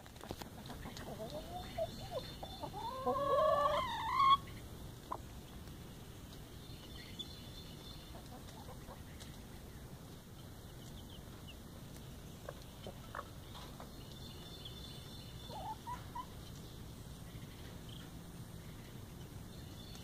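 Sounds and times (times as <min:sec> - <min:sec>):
hen clucking and calling: 0:00.2 - 0:05.7, 0:06.3 - 0:09.8, 0:10.6 - 0:20.0.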